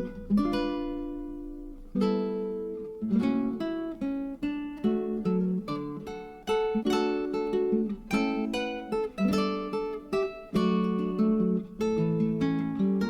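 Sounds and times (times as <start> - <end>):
acoustic guitar plucked chords: 0.0 - 13.0.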